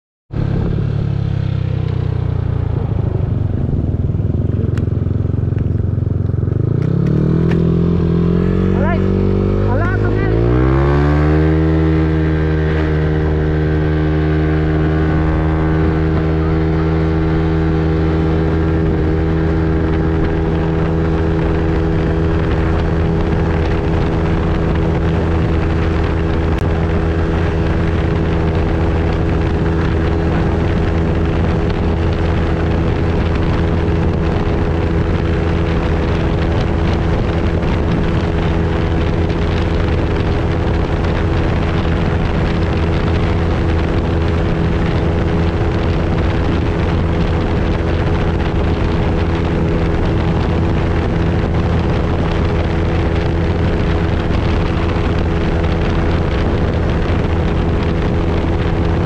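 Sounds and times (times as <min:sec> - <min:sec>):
wind on microphone: 0:00.3 - 0:59.0
scooter engine running: 0:00.4 - 0:59.0.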